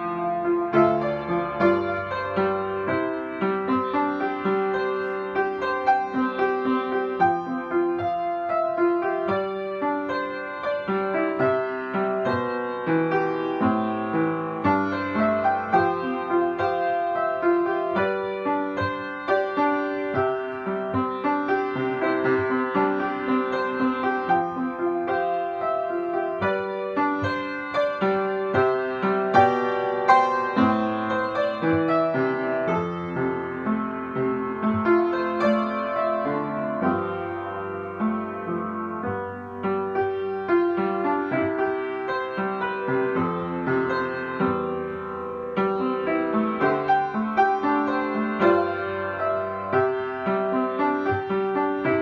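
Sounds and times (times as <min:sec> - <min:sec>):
upright piano melody: 0:00.0 - 0:52.0.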